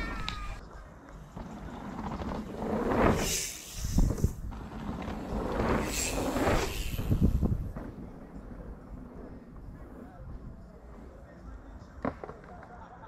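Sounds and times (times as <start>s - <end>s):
bike tyres rolling on dirt: 0.0s - 13.0s
wheels thudding on ground: 0.0s - 13.0s.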